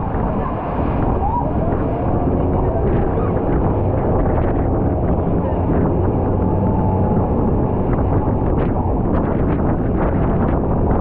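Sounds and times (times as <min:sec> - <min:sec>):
boat engine drone: 0:00.0 - 0:11.0
water rushing along hull: 0:00.0 - 0:11.0
wind buffeting microphone: 0:00.0 - 0:11.0.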